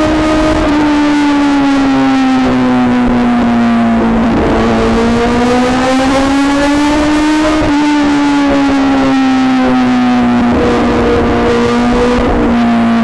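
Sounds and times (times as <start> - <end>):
motorcycle engine in tunnel: 0.0 - 13.0.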